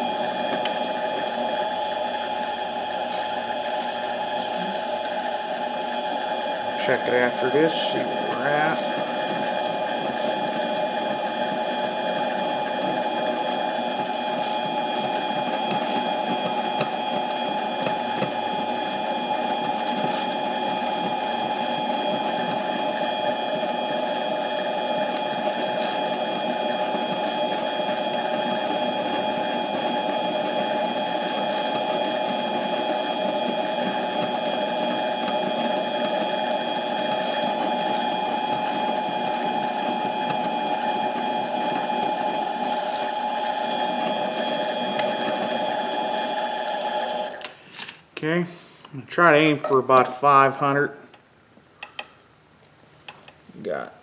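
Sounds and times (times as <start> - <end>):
lathe motor whine: 0.0 - 47.5.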